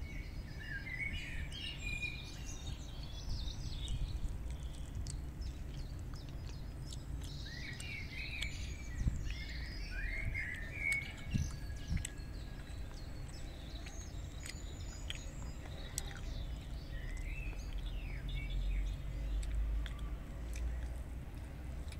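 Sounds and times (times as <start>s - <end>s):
low background rumble: 0.0s - 21.9s
small birds chirping: 0.0s - 21.9s.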